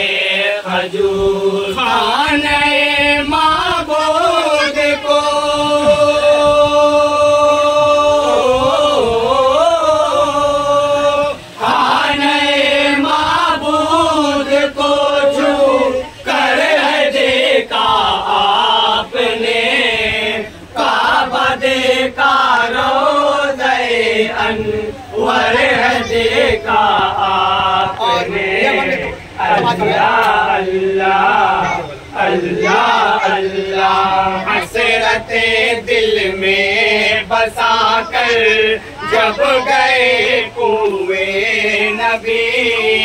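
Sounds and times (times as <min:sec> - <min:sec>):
men chanting in unison: 0:00.0 - 0:43.0.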